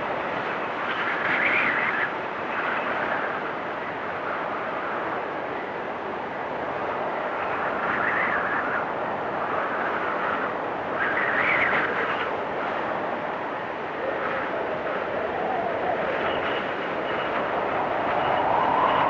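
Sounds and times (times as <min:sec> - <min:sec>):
howling blizzard wind: 0:00.0 - 0:19.0.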